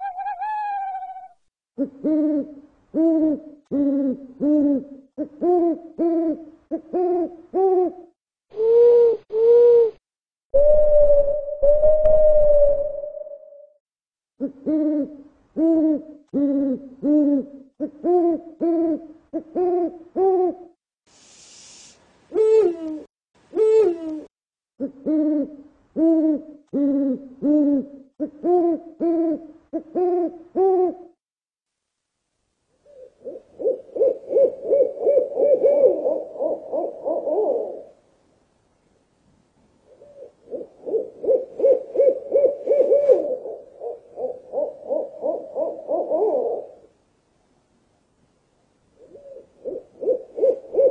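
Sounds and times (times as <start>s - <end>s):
owl hooting: 0.0s - 10.0s, 10.6s - 13.7s, 14.4s - 20.7s, 22.3s - 31.1s, 32.8s - 38.0s, 39.9s - 46.9s, 49.0s - 50.9s.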